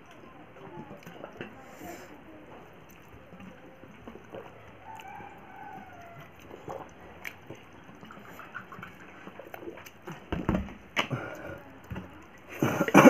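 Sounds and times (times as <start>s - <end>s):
chewing: 0.0s - 13.0s.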